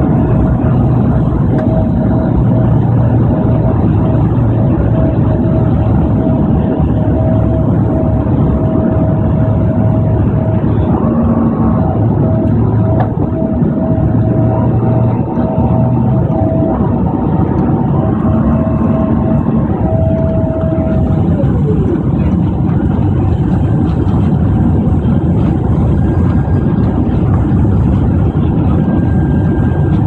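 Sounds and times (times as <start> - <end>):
engine and airflow rush: 0.0 - 30.0
steady whine: 0.0 - 30.0.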